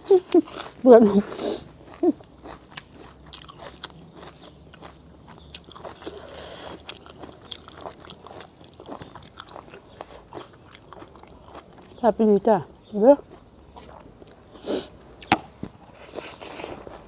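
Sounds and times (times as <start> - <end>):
person chewing food: 0.0 - 12.0, 12.7 - 17.0.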